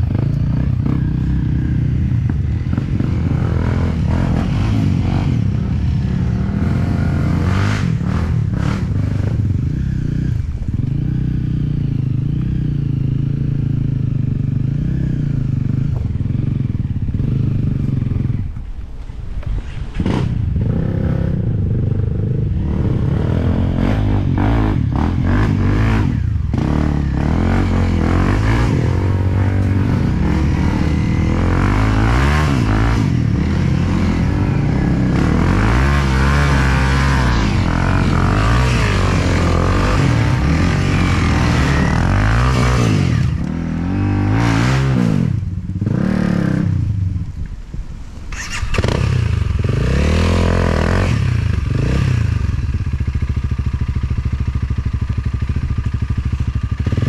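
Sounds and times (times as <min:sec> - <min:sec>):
dirt bike engine revving: 0:00.0 - 0:18.4, 0:20.0 - 0:47.0, 0:48.3 - 0:57.0.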